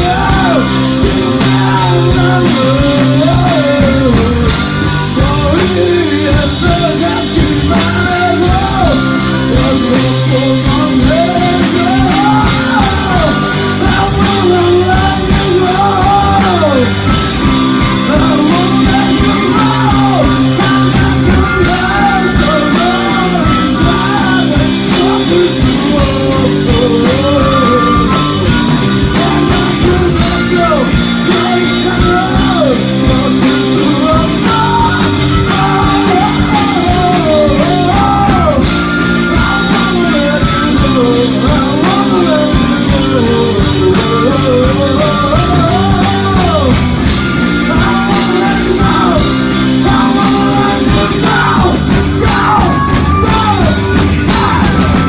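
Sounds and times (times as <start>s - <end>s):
distorted electric guitar: 0.0s - 55.0s
drum kit: 0.0s - 55.0s
man singing lead vocal: 0.0s - 55.0s.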